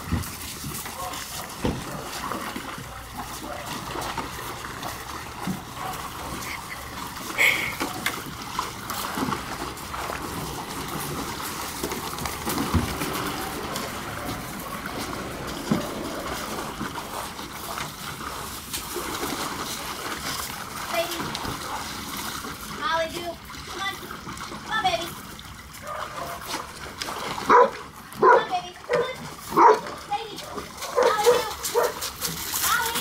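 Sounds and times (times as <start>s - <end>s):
dogs splashing in water: 0.0s - 33.0s.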